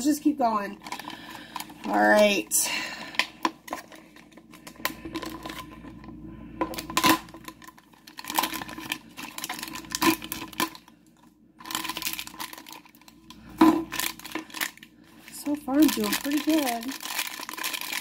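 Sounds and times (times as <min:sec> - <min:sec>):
foil packaging crinkling: 0:00.0 - 0:06.1, 0:06.7 - 0:18.0.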